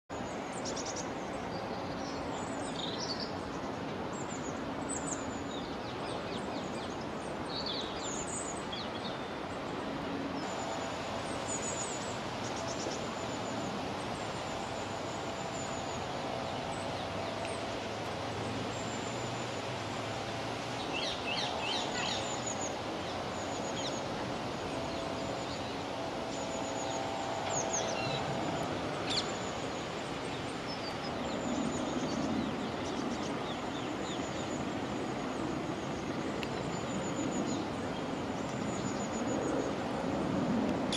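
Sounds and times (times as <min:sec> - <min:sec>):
faint droning hum: 0:00.1 - 0:40.9
songbirds chirping: 0:00.1 - 0:40.9.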